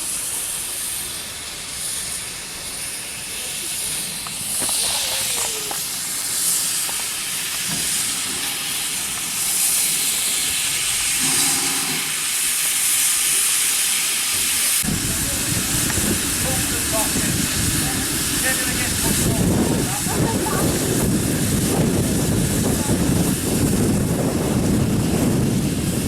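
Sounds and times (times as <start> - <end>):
steam locomotive venting steam: 0.0 - 26.0.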